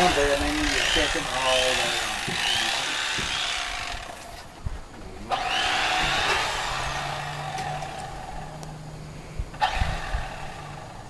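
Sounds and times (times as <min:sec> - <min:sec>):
electric knife whining: 0:00.0 - 0:04.6, 0:05.2 - 0:11.0.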